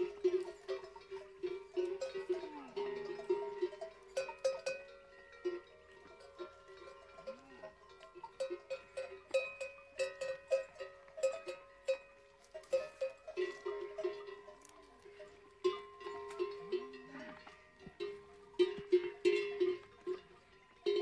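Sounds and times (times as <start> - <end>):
camel neck bells clanking: 0.0 - 21.0.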